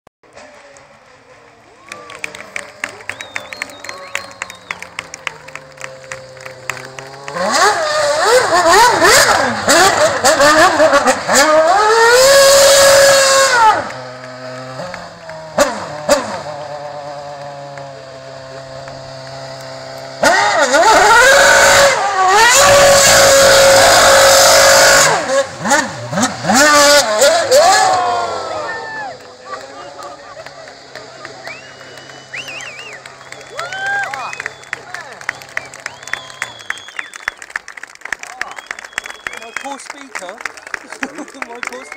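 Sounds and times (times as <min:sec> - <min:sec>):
racing car engine revving: 0:00.3 - 0:37.5.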